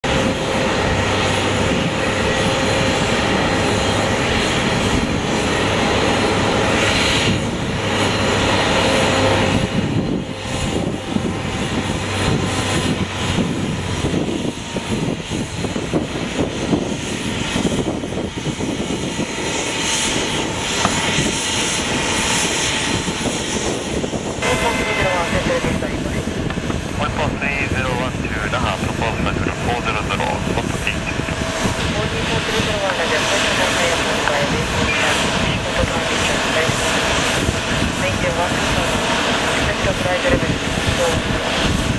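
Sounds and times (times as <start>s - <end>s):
jet engine rush: 0.0s - 41.9s.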